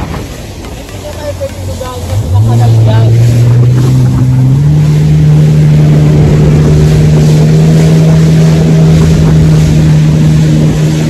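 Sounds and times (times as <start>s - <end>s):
jet ski engine running: 0.0s - 11.0s
water rushing and spraying: 0.0s - 11.0s.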